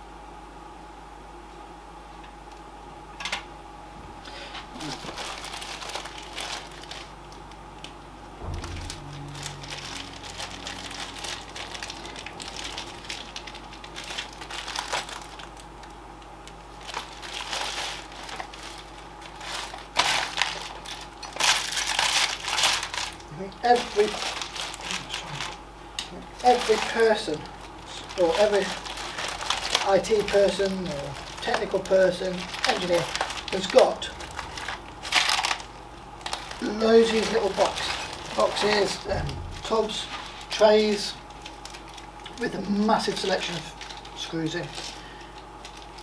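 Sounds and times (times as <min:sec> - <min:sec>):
faint steady hum: 0:00.0 - 0:46.0
rummaging through metal screws: 0:04.8 - 0:07.2, 0:08.4 - 0:15.6, 0:16.8 - 0:46.0.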